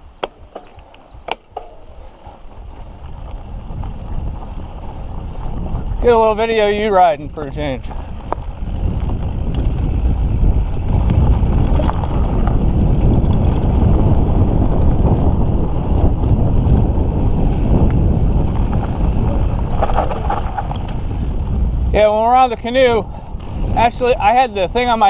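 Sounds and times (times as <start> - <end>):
bike tyres rumbling on dirt: 0.0 - 25.0
wind buffeting microphone: 0.0 - 25.0.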